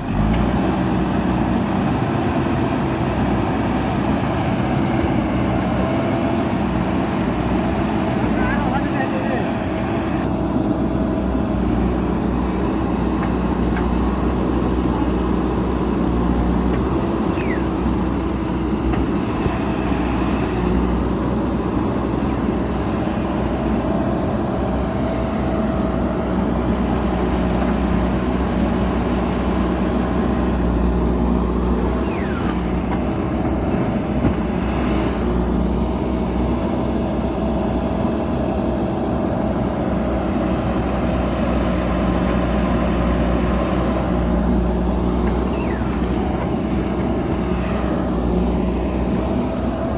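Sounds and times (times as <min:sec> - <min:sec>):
diesel engine running steadily: 0:00.0 - 0:49.9.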